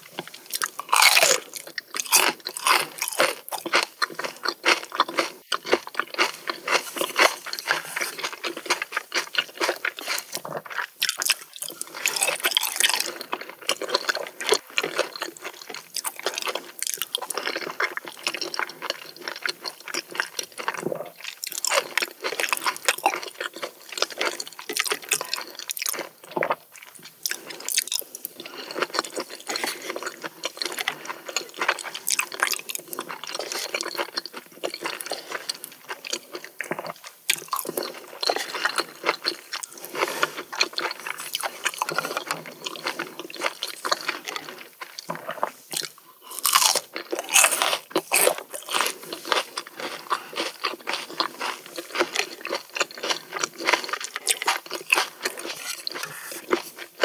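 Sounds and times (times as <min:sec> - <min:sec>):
wet chewing of oysters: 0:00.0 - 0:57.0.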